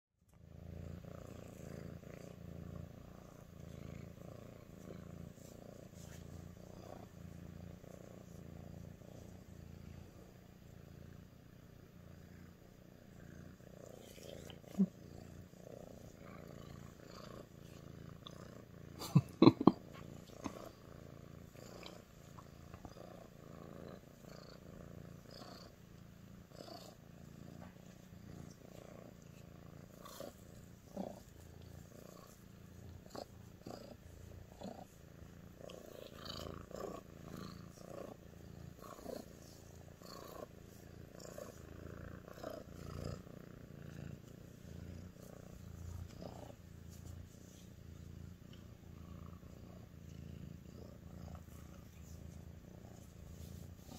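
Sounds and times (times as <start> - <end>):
cat purring: 0.3 - 53.9.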